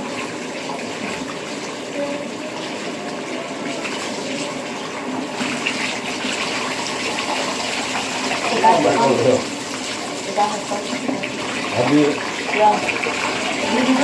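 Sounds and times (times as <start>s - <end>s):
tap water running and splashing: 0.0s - 14.0s.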